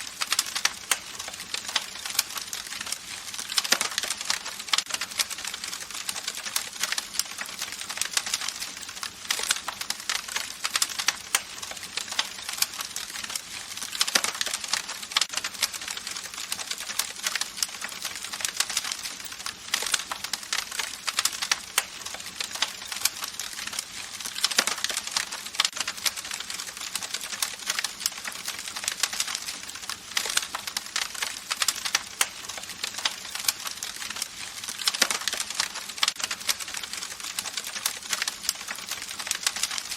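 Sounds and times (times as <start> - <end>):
campfire pops and snaps: 0.2 - 39.9.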